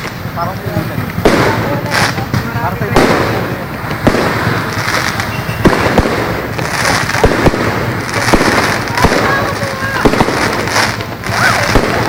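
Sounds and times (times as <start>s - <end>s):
firework bangs: 0.0s - 12.0s
fireworks crackling: 0.0s - 12.0s.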